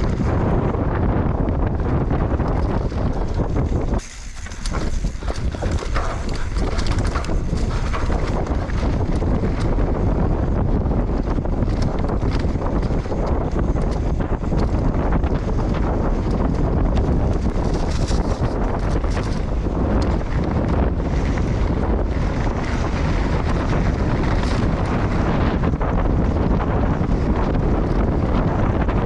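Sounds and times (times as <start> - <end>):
bike rattling and clattering: 0.0 - 29.0
wind rushing over microphone: 0.0 - 29.0.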